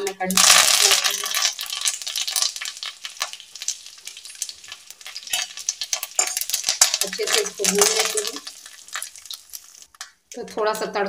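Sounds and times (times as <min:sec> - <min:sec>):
mustard seeds spluttering in hot oil: 0:00.0 - 0:11.0.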